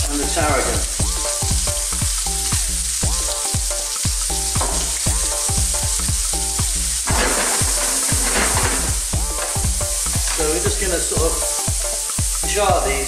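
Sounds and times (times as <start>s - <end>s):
background music with beat: 0.0s - 13.0s
onions sizzling in a pan: 0.0s - 13.0s.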